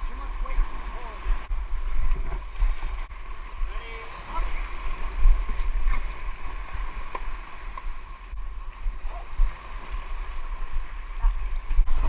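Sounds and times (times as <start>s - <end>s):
water noise: 0.0s - 12.0s
wind rumble on microphone: 0.0s - 12.0s.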